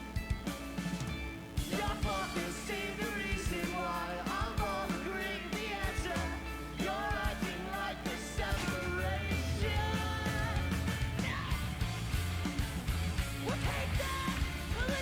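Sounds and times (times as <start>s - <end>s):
rock music with singing and drums: 0.0s - 15.0s.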